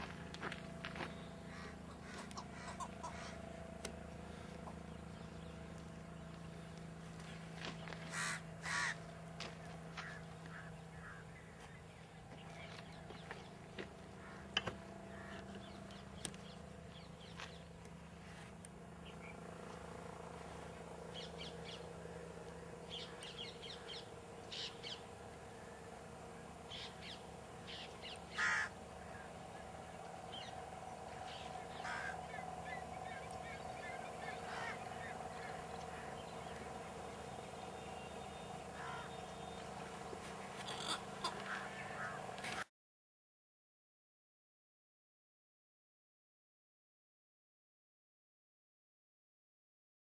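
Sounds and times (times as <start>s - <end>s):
birds calling: 0.0s - 42.7s
steady low hum: 0.0s - 42.7s.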